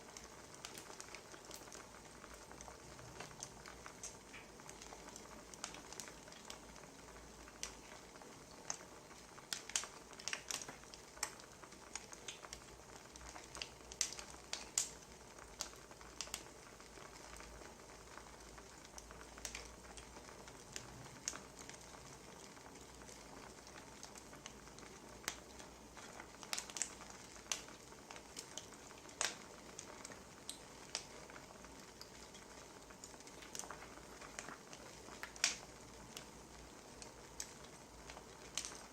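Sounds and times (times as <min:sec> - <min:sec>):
firewood crackling and popping: 0:00.0 - 0:38.9
wood fire hissing: 0:00.0 - 0:38.9.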